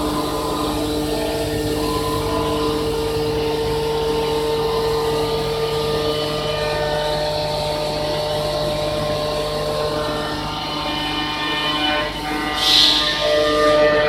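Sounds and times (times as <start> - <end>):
machine hum: 0.0 - 14.0
machine whining tones: 0.0 - 14.0.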